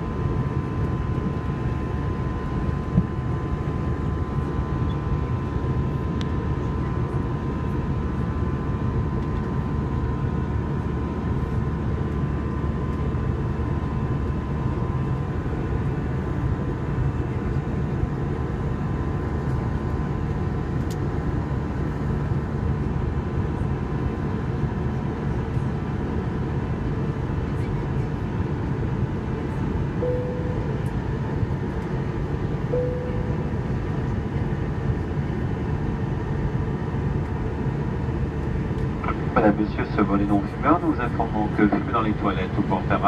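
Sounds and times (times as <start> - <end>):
aircraft engines droning: 0.0 - 43.0.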